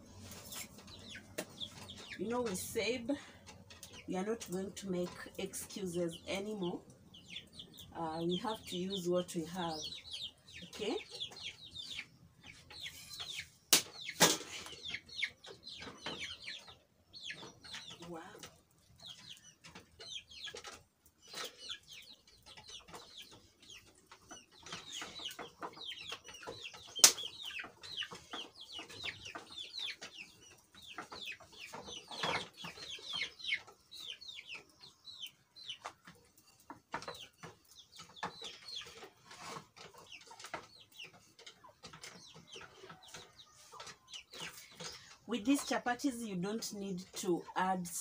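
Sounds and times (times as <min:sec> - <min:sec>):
chickens calling: 0:00.0 - 0:48.0
chickens clucking: 0:00.0 - 0:48.0.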